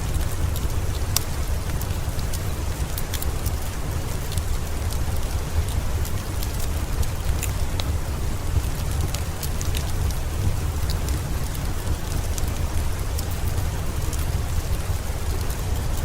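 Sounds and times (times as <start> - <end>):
deep rumble: 0.0 - 16.0
fireplace crackling: 0.0 - 16.0
steady rain falling: 0.0 - 16.0.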